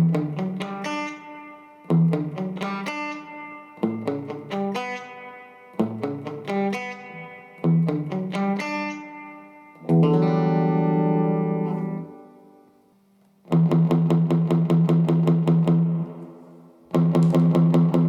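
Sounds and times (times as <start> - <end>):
electric guitar chords: 0.0 - 12.8, 13.5 - 18.0.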